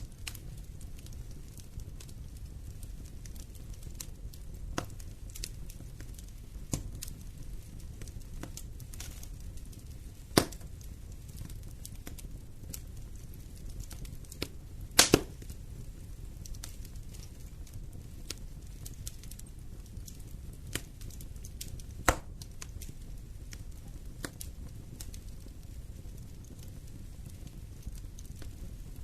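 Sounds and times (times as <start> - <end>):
fire flames rumbling: 0.0 - 29.0
wood crackling and popping: 0.0 - 29.0.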